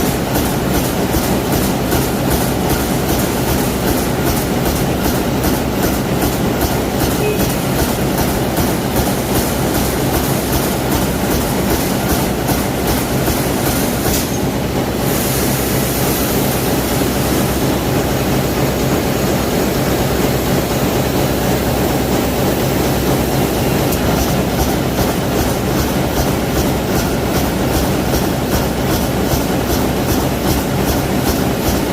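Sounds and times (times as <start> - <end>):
press machine clattering: 0.0 - 15.0, 16.8 - 31.9.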